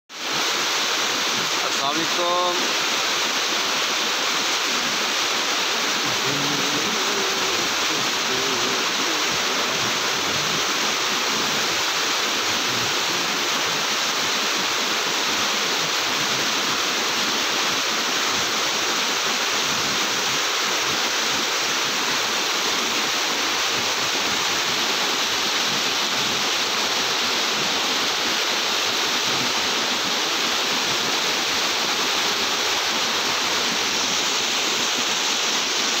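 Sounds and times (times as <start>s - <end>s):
river rushing over rocks: 0.1s - 36.0s.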